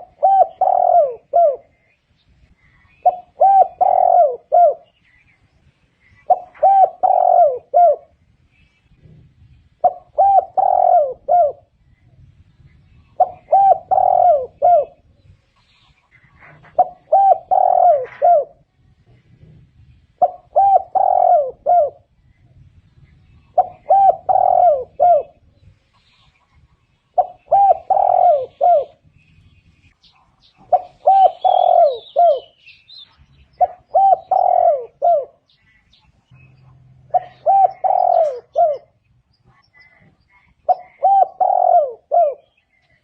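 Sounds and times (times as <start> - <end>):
dove cooing: 0.0 - 2.0, 2.6 - 5.1, 6.1 - 8.2, 8.9 - 15.3, 16.1 - 22.5, 23.2 - 26.4, 27.1 - 29.2, 30.5 - 35.7, 36.7 - 43.0.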